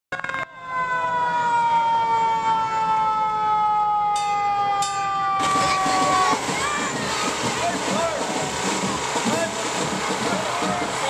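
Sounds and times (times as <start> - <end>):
fire truck siren falling tone: 0.1 - 9.1.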